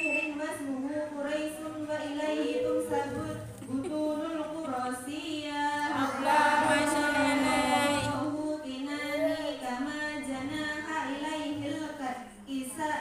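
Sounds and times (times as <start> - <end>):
woman chanting melodic recitation: 0.0 - 13.0.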